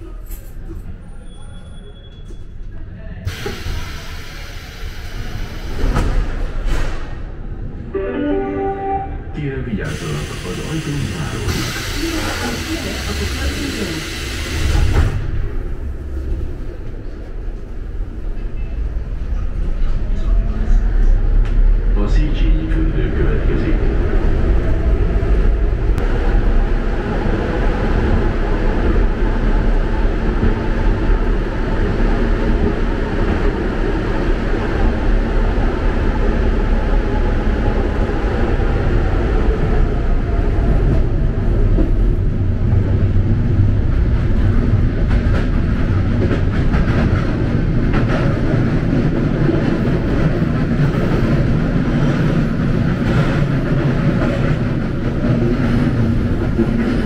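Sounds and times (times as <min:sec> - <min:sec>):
wheels rumbling on rails: 0:10.8 - 0:57.0.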